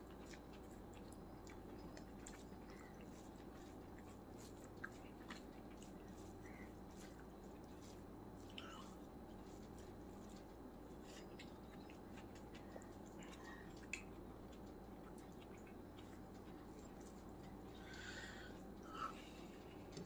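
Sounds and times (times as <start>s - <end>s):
chewing clicks: 0.0s - 18.8s
fingers mixing rice on a plate: 0.0s - 18.8s
low background hum: 0.0s - 20.0s.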